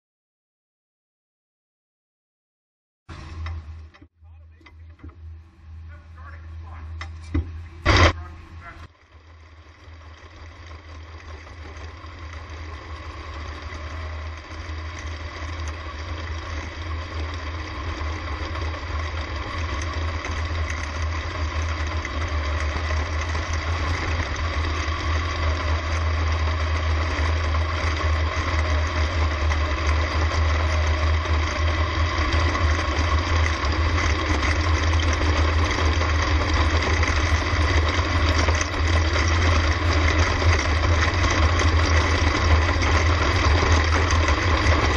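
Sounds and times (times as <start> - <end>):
other race car engines: 3.1 - 44.9
race car engine running: 3.1 - 44.9.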